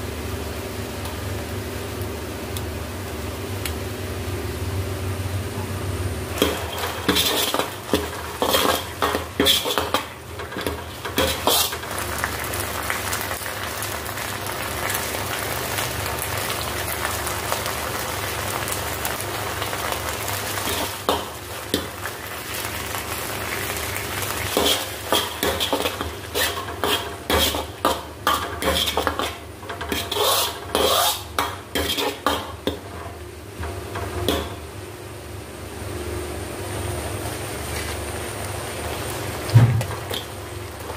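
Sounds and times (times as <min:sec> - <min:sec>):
sauce sizzling in a wok: 0:00.0 - 0:40.9.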